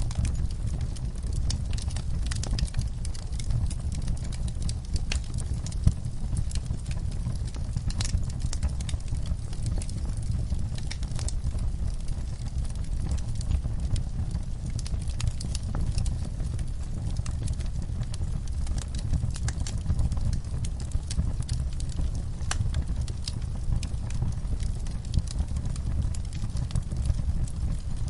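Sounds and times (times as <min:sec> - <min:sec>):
fire crackles and pops: 0:00.0 - 0:28.0
fire flames rumbling: 0:00.0 - 0:28.0.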